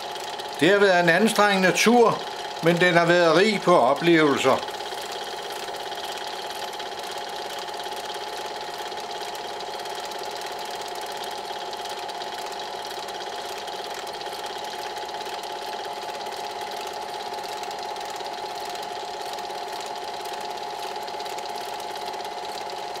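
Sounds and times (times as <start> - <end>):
film projector whirring and clattering: 0.0 - 23.0.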